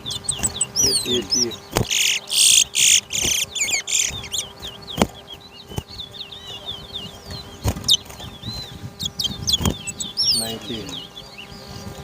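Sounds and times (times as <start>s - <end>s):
finch singing high chirps: 0.0s - 12.0s.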